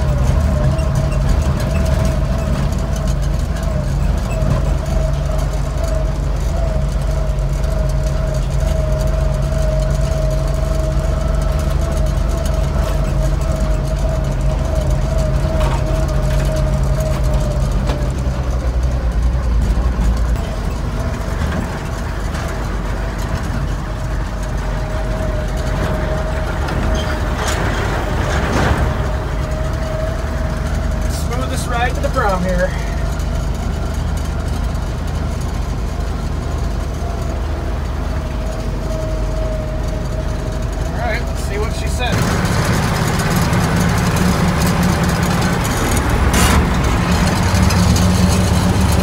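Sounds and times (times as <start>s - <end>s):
truck engine running: 0.0s - 49.0s.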